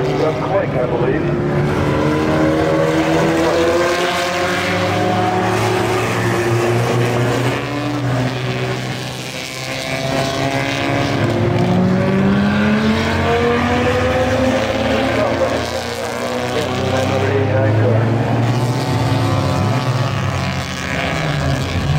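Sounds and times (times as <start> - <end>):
racing car engines accelerating past: 0.0 - 21.9.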